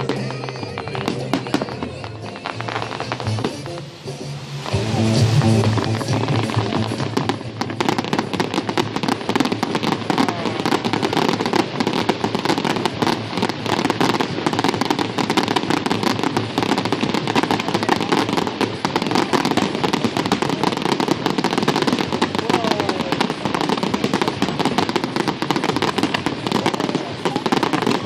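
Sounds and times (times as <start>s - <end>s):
fireworks crackling and popping: 0.0s - 28.0s.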